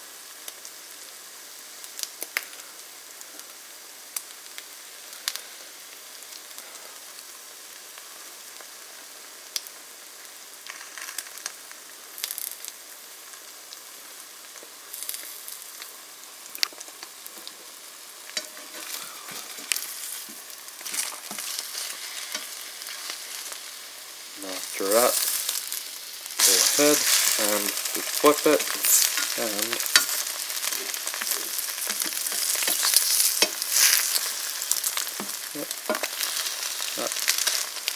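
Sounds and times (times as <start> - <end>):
eggs and bread frying in a pan: 0.0 - 37.9.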